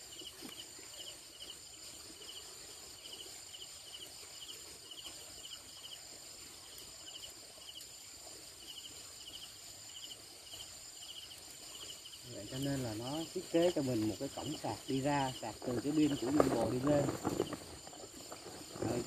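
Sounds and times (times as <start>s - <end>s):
cricket chirping call: 0.0s - 19.0s
crickets trilling: 0.0s - 19.0s.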